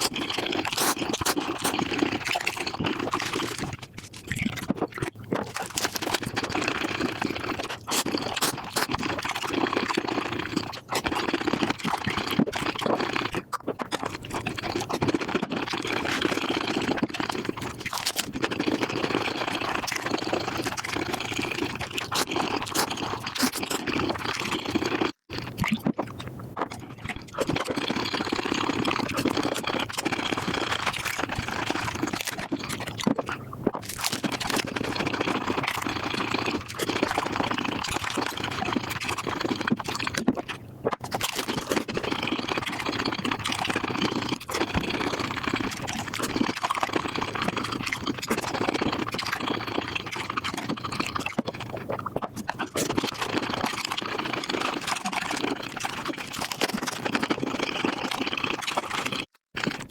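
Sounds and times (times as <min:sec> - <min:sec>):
sped-up chewing and crunching: 0:00.0 - 0:59.9.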